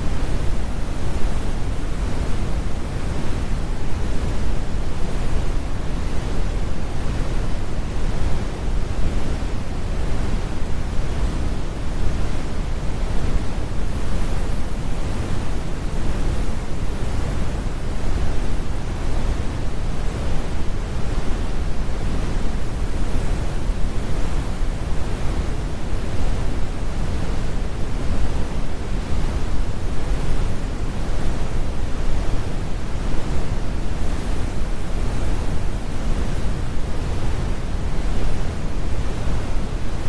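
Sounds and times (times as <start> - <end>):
brown noise rumbling hiss: 0.0 - 40.0.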